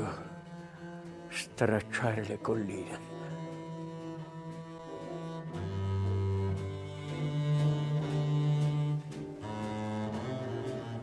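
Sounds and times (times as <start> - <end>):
low bowed string notes: 0.0 - 11.0.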